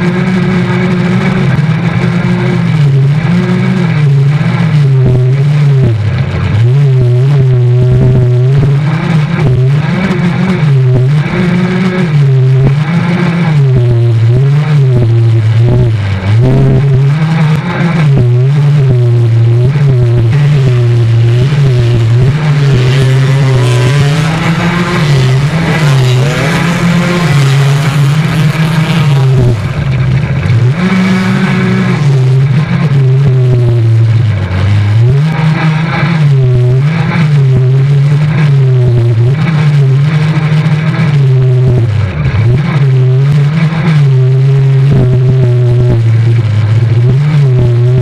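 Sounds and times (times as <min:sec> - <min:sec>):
quad bike engine revving: 0:00.0 - 0:48.0.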